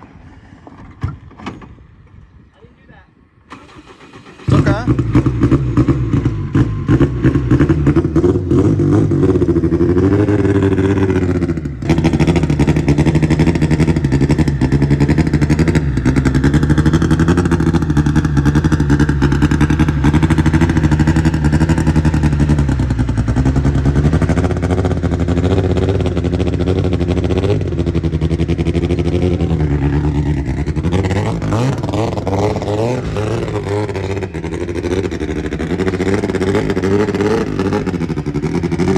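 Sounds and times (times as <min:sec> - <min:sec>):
car engine revving unevenly: 0:04.5 - 0:38.9.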